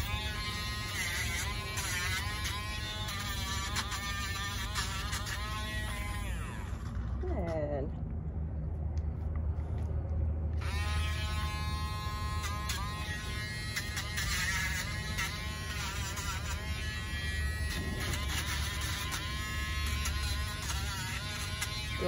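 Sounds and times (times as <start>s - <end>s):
rotary nail grinder whining: 0.0s - 7.2s, 10.6s - 22.0s.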